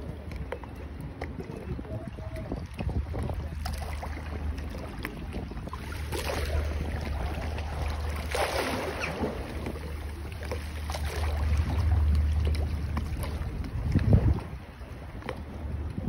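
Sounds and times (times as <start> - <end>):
steady low rumble: 0.0 - 16.0
water lapping against quay and boats: 0.0 - 16.0.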